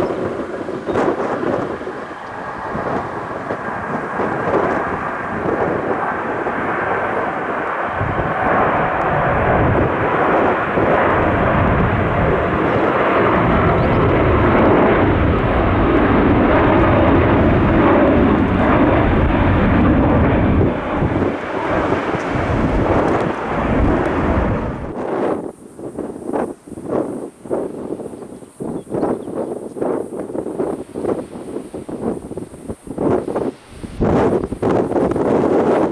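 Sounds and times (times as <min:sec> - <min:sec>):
airliner engine noise: 0:00.0 - 0:35.9
wind buffeting microphone: 0:00.0 - 0:35.9.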